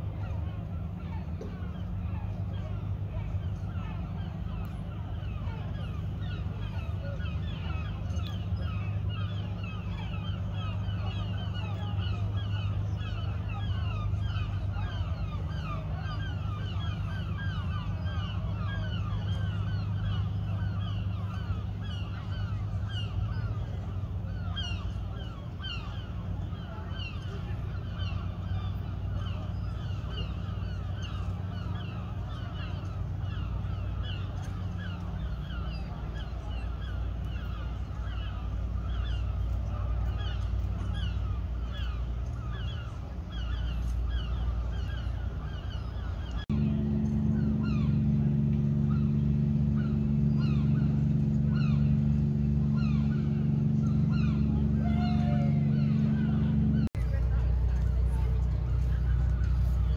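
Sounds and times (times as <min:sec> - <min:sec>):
seabirds calling: 0:00.0 - 0:59.9
steady low hum: 0:00.0 - 0:59.9.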